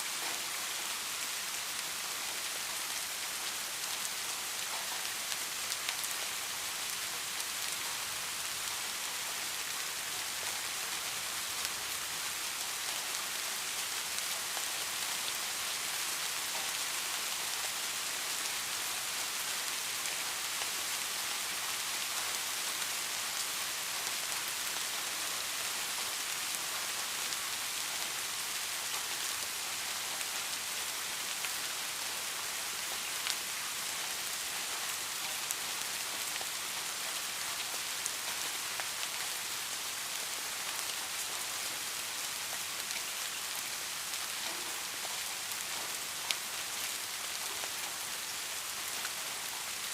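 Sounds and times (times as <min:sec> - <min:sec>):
soft steady rain: 0:00.0 - 0:49.9.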